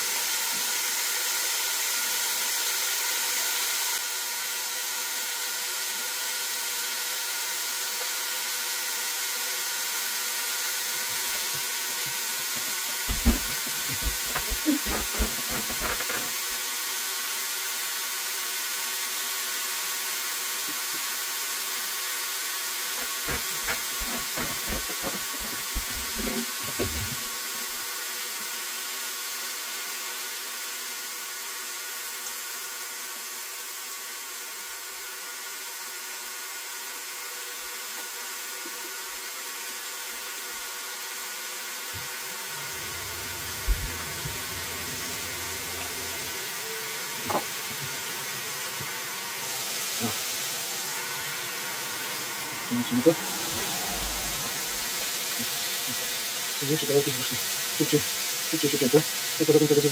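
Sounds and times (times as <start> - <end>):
chicken sizzling in oil: 0.0 - 59.9.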